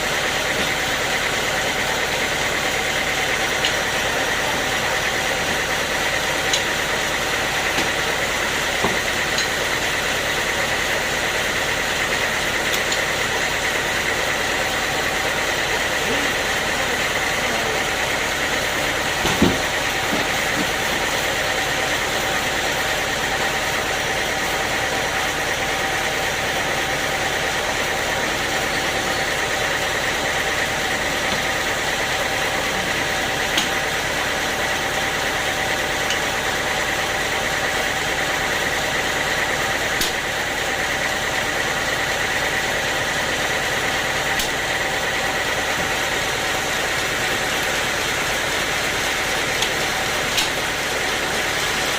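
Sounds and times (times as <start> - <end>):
sawmill machinery whining: 0.0 - 51.9.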